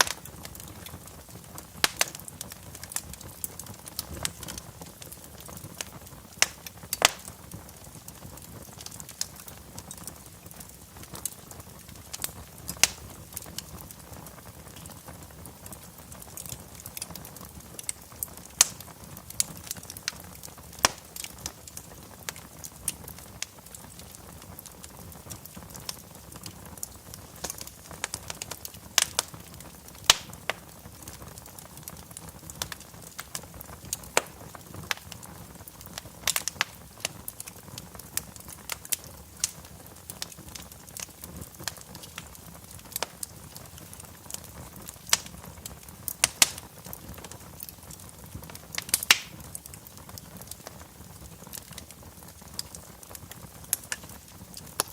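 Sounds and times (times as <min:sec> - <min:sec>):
low steady hiss: 0:00.0 - 0:54.9
wood fire crackling and popping: 0:00.0 - 0:54.9.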